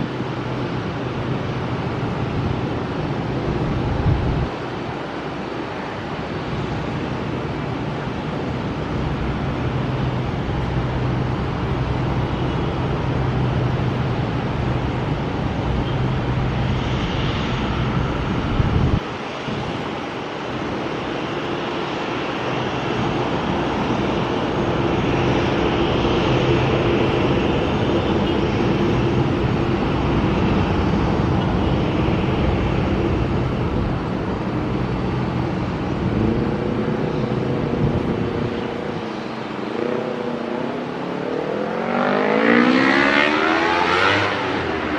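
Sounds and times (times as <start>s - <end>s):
jet engine and airflow rushing: 0.0s - 44.9s.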